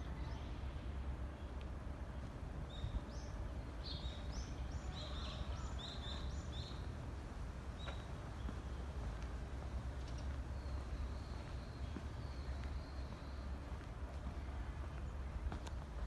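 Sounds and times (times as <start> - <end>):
low outdoor rumble: 0.0 - 16.0
small songbirds chirping: 0.0 - 16.0.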